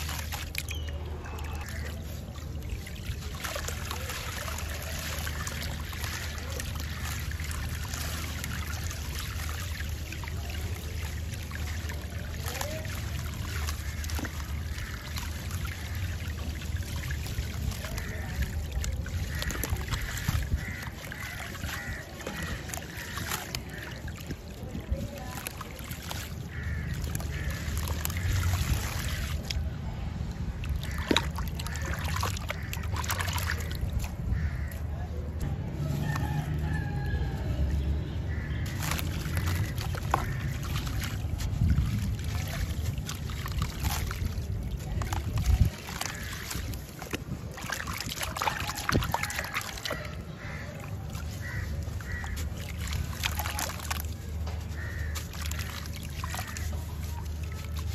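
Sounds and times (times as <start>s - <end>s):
grit trickling into water: 0.0s - 57.9s
wet chunk sloshed in water: 0.0s - 57.9s.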